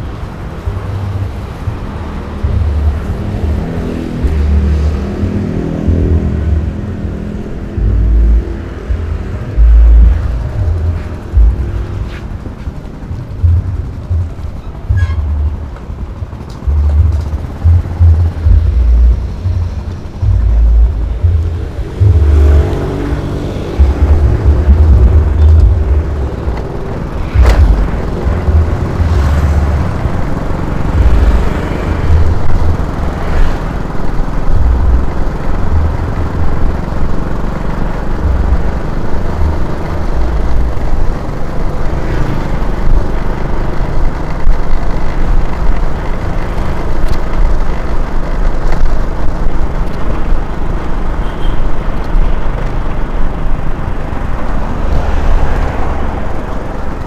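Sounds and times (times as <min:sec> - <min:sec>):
road noise: 0:00.0 - 0:57.0
scooter engine running: 0:10.1 - 0:57.0.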